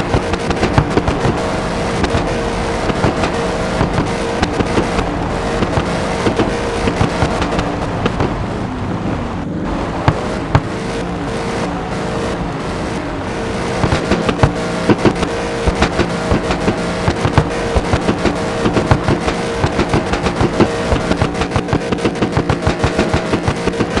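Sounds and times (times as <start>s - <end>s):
exhaust pops crackling: 0.0s - 8.6s, 9.9s - 24.0s
car engine at high revs: 0.0s - 24.0s.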